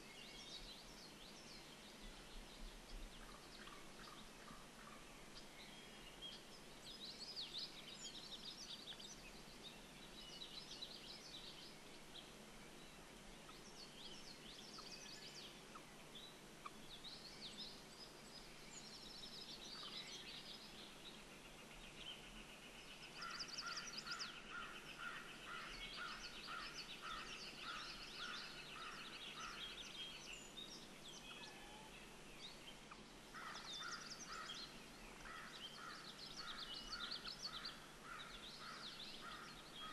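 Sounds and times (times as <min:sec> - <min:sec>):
low repeated bird call notes: 0:00.0 - 0:39.9
songbirds chirping: 0:00.0 - 0:39.9.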